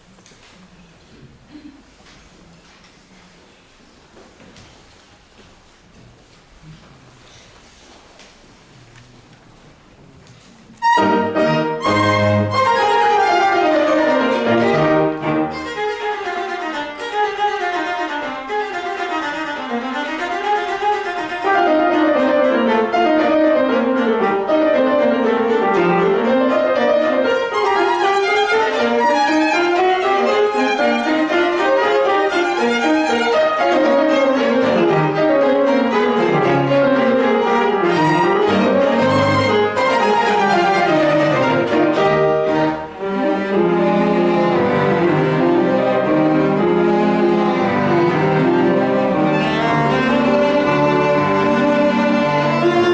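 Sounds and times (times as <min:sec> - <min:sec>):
piano quartet chamber music: 0:09.0 - 0:52.9.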